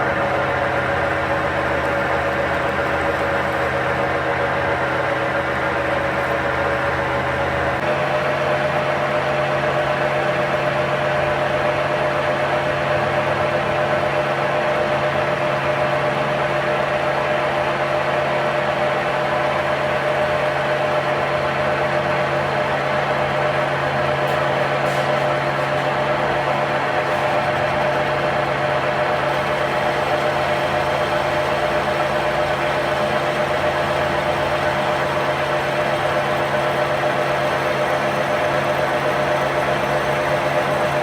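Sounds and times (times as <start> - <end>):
machine humming and whining: 0.0 - 41.0.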